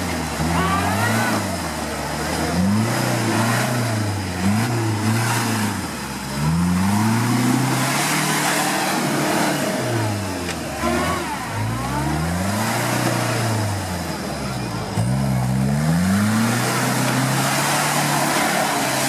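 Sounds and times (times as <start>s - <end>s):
engine revving under load: 0.0s - 19.0s.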